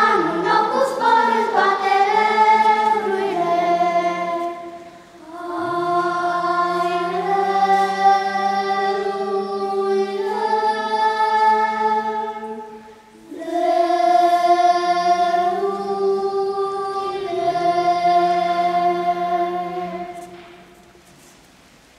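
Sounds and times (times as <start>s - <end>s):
children's choir singing: 0.0s - 20.9s.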